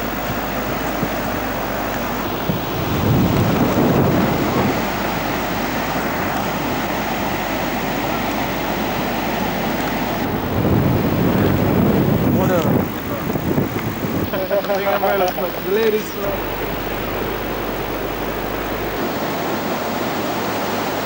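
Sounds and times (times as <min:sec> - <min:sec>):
wind buffeting microphone: 0:00.0 - 0:19.1.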